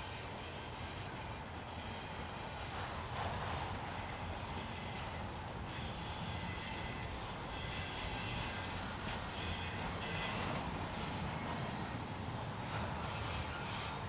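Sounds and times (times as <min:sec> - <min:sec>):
faint wheel squeal: 0:00.0 - 0:14.0
freight cars rumbling on rails: 0:00.0 - 0:14.0.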